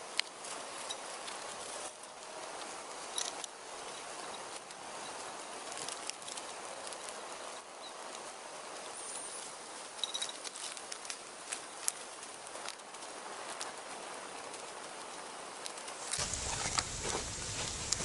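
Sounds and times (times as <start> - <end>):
dry leaves and sticks rustling: 0.0 - 18.0.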